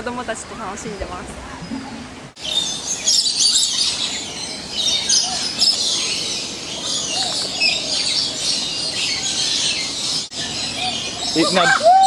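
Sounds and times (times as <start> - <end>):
chorus of birds chirping: 0.0 - 12.0.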